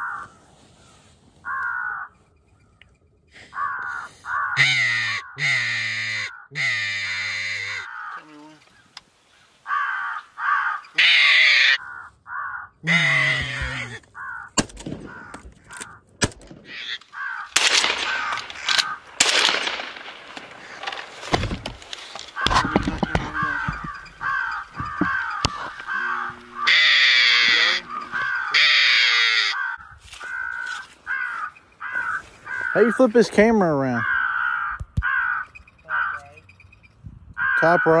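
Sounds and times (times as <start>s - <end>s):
crows cawing: 0.0s - 2.8s, 3.4s - 36.6s, 37.4s - 38.0s.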